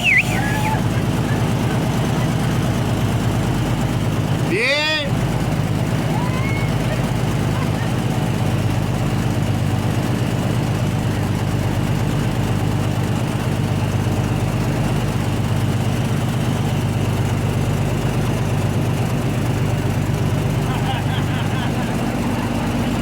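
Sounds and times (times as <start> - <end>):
large machine droning: 0.0 - 23.0.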